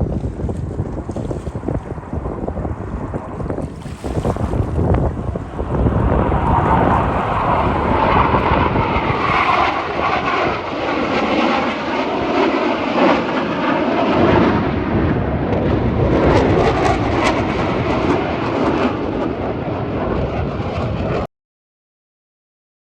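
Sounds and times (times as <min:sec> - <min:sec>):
airplane engine flying past: 0:00.0 - 0:21.3.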